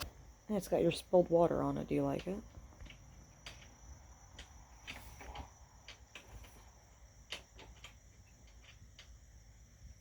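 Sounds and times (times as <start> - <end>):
faint high-pitched whine: 0.0 - 10.0.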